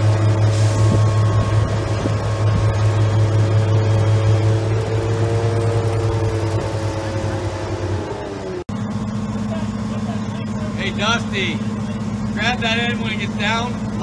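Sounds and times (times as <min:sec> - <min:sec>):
excavator diesel engine humming: 0:00.0 - 0:14.0.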